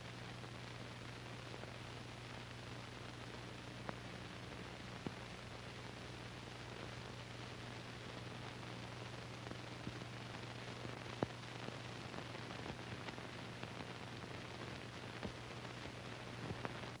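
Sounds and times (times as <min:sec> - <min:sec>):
crackles and pops: 0:00.0 - 0:17.0
film soundtrack hiss: 0:00.0 - 0:17.0.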